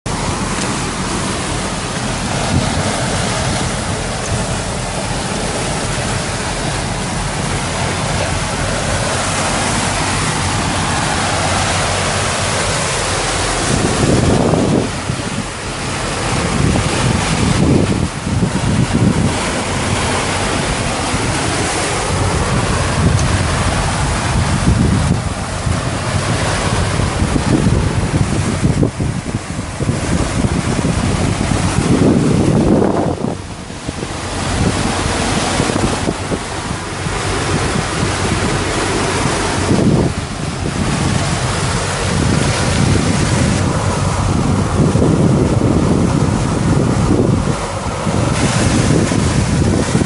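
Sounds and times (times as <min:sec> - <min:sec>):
boat engines droning: 0:00.0 - 0:50.0
rushing water and wake: 0:00.0 - 0:50.0
wind buffeting microphone: 0:00.1 - 0:50.0.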